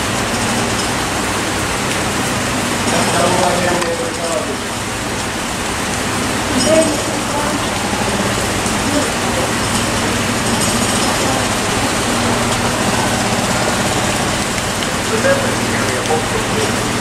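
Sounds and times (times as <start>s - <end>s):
rain hissing: 0.0s - 17.0s
train equipment humming: 0.0s - 17.0s.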